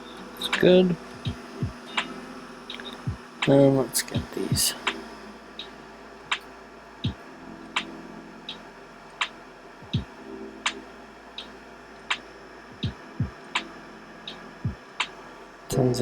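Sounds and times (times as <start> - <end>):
low hum: 0.0 - 16.0
regular ticking: 0.0 - 16.0.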